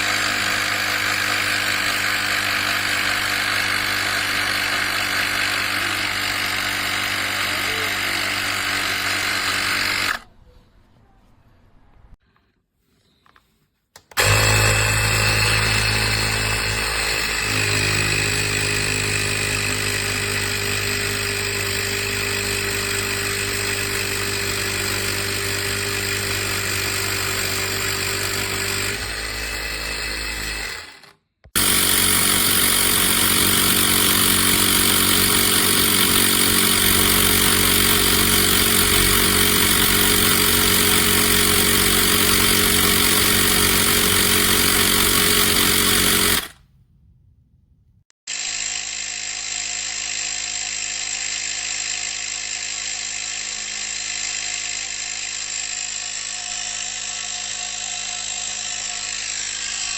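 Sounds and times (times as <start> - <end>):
tyre inflator compressor running: 0.0 - 10.2, 14.1 - 46.6, 48.3 - 59.9.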